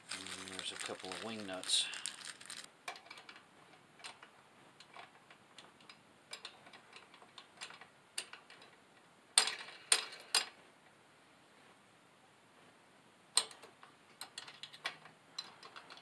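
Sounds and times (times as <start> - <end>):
small metal clicks: 0.2 - 10.6, 13.4 - 16.0.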